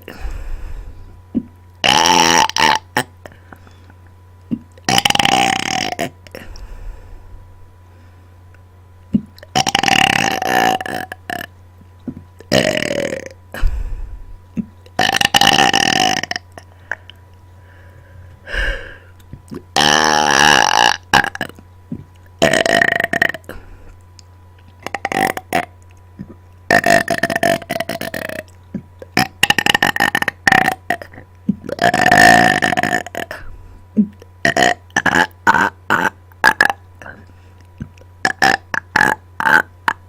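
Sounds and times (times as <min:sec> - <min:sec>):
person burping: 0:01.3 - 0:03.6, 0:04.5 - 0:06.6, 0:09.1 - 0:17.2, 0:18.6 - 0:23.7, 0:24.8 - 0:40.0.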